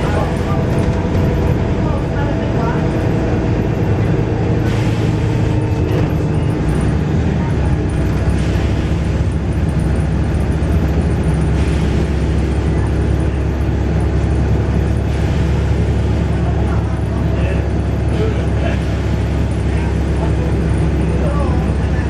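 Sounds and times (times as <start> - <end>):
diesel bus engine running: 0.0 - 22.0.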